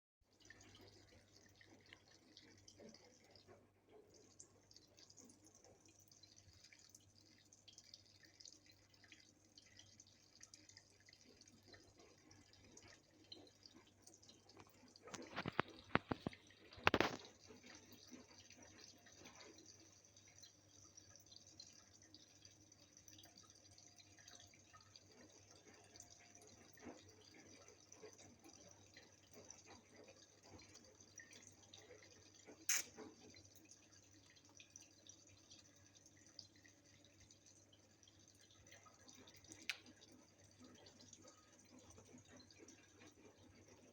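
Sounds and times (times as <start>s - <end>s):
faucet trickling and dripping: 0.3s - 43.9s.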